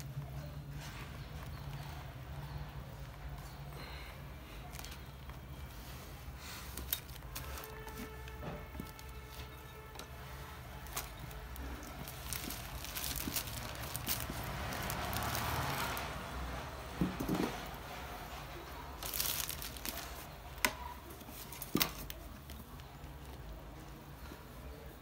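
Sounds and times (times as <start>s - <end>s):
rustling cables and plastic pipes: 0.0s - 25.0s.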